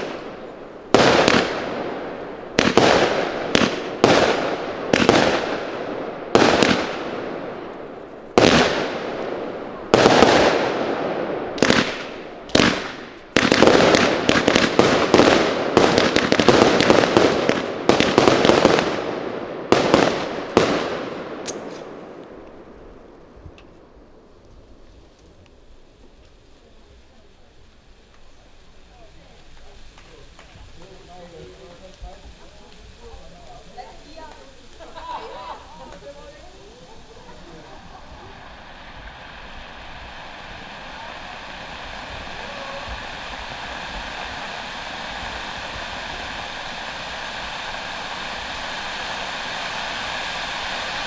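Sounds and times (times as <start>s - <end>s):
fireworks firing loud shots: 0.0s - 51.0s.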